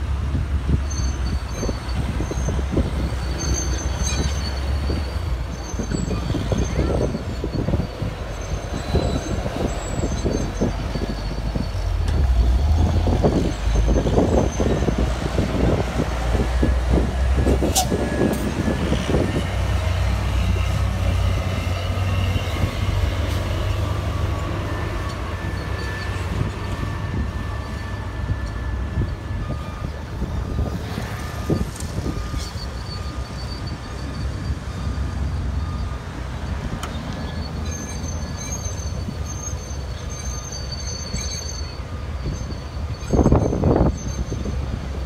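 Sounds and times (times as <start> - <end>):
truck engines rumbling: 0.0 - 45.0
high squeals: 0.8 - 20.6, 21.6 - 45.0.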